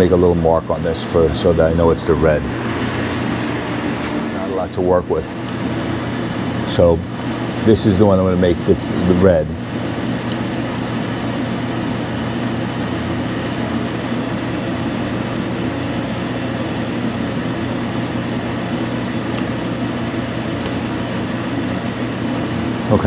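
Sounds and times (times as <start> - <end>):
machine drone: 0.0 - 23.0.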